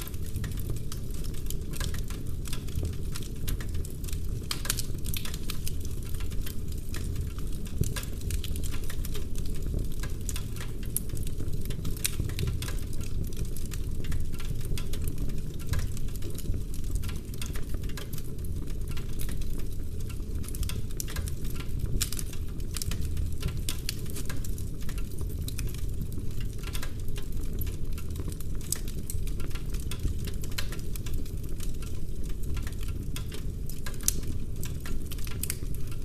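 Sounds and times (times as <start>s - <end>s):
fire popping: 0.0s - 36.0s
wood fire crackling: 0.0s - 36.0s.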